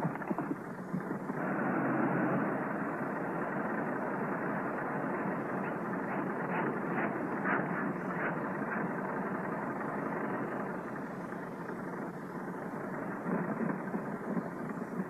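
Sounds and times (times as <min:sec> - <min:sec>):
muffled car engine running: 0:00.0 - 0:15.0.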